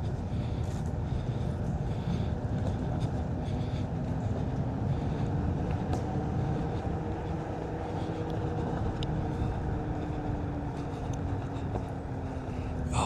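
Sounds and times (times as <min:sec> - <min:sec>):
faint motor hum: 0:00.0 - 0:13.0
tyre and wind rumble: 0:00.0 - 0:13.0.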